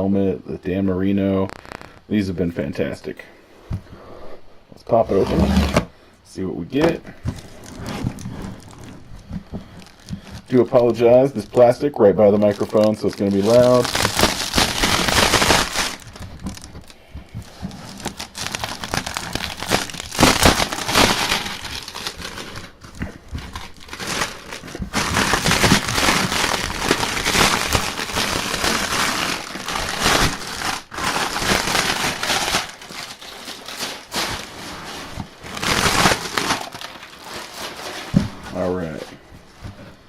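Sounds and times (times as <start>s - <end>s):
shrink wrap crinkling: 1.3s - 2.2s, 6.8s - 39.2s.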